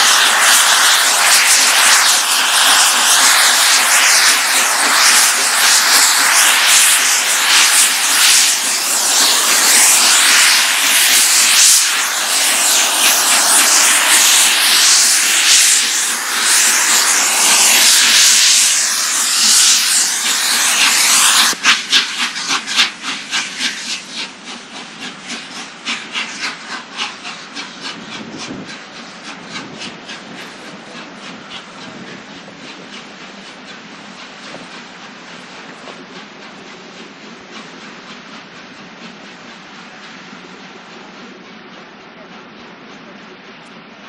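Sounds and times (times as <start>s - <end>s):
rhythmic locomotive beats: 0.0s - 44.0s
steam locomotive exhaust rushing: 0.0s - 44.0s.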